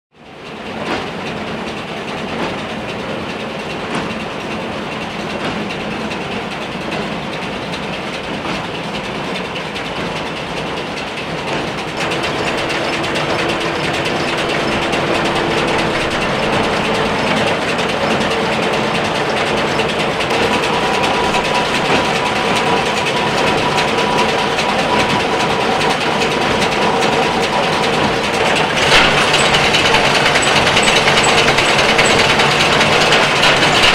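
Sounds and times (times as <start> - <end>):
baler mechanical clatter: 0.4 - 33.9
tractor engine: 2.0 - 33.9.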